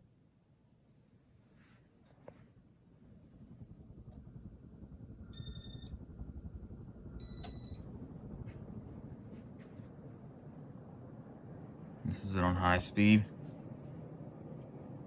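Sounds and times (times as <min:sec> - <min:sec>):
ceiling fan hum and air rush: 0:00.0 - 0:15.0.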